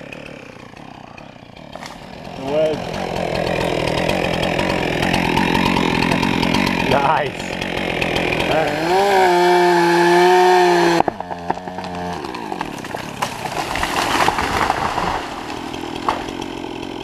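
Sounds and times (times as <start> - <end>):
chainsaw running: 0.0 - 17.0
tree cracking: 0.0 - 17.0.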